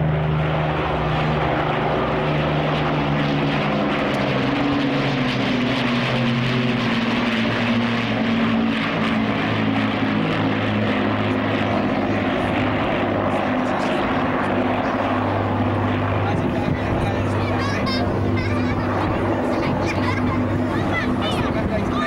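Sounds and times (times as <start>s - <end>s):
propeller aircraft droning past: 0.0s - 22.0s.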